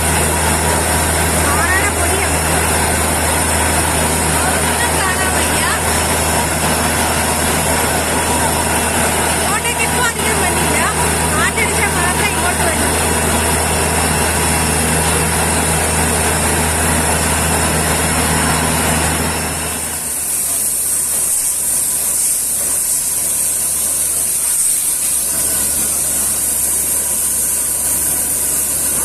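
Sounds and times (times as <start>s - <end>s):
drilling rig engine drone: 0.0s - 29.0s.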